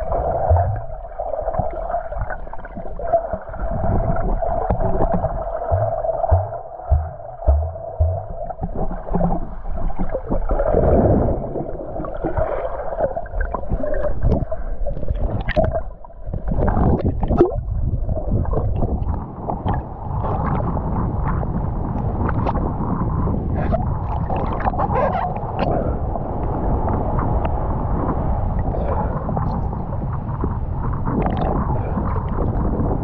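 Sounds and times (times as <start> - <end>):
water gurgling and sloshing: 0.0 - 33.0.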